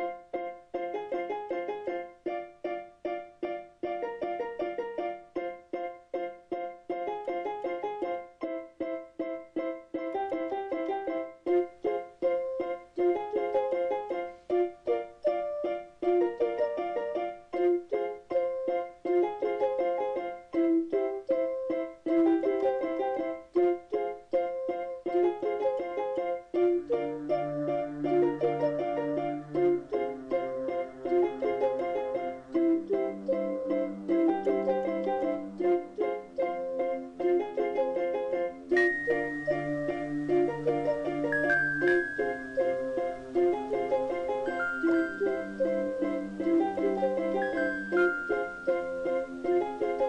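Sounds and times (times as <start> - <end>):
instrumental music plucked notes: 0.0 - 50.0.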